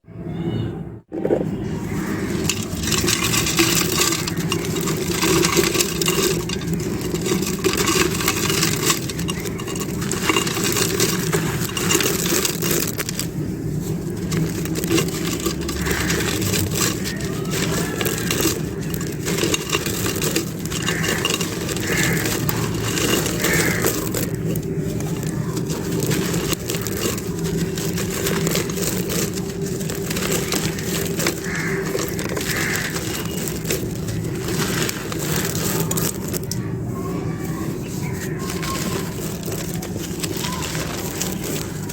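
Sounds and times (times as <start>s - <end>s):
dry clay crunching and crackling: 1.2s - 41.9s.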